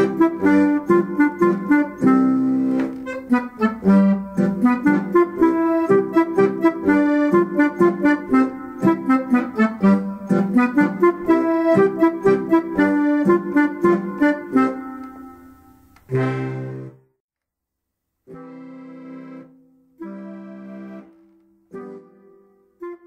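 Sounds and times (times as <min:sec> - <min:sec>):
accordion playing folk dance: 0:00.0 - 0:15.1, 0:16.1 - 0:17.0, 0:18.3 - 0:23.0.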